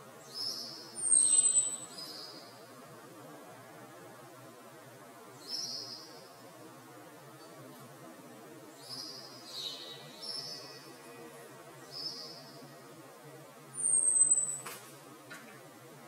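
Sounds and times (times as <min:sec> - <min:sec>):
faint background hiss: 0:00.0 - 0:16.0
songbirds chirping: 0:00.0 - 0:16.0.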